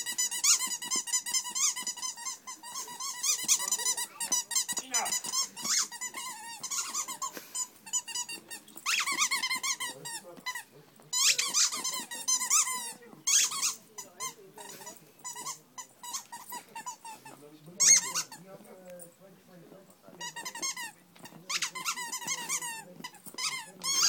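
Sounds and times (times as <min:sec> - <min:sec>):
squeaky toy squeaking: 0:00.0 - 0:19.2, 0:20.1 - 0:24.0.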